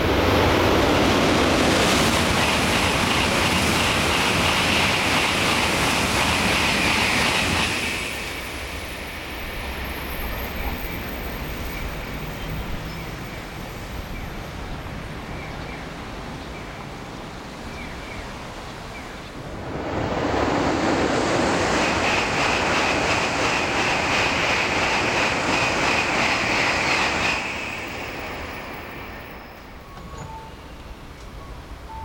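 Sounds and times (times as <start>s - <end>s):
high-speed train passing: 0.0s - 32.0s.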